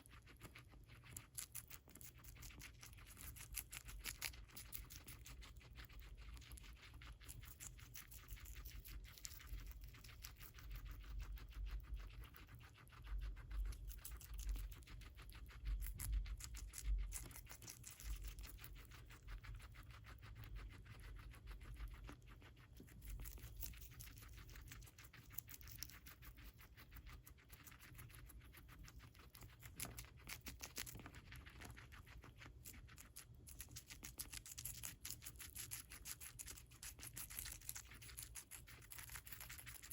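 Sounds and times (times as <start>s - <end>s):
guinea pig chewing lettuce: 0.0s - 39.9s.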